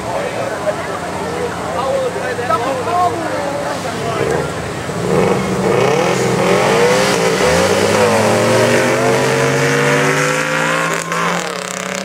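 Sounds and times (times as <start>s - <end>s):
drag racing engines accelerating: 0.0s - 12.0s.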